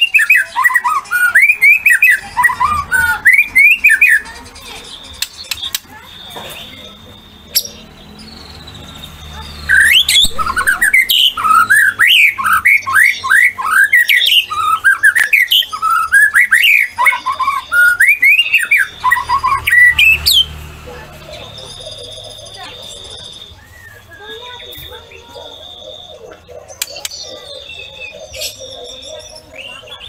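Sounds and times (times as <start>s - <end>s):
bird singing whistled notes: 0.0s - 20.7s, 21.3s - 30.0s.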